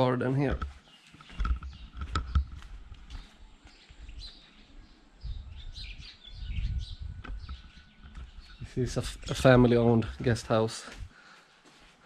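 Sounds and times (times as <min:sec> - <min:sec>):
low rumbling microphone noise: 0:00.0 - 0:11.2
small birds chirping: 0:00.0 - 0:11.6.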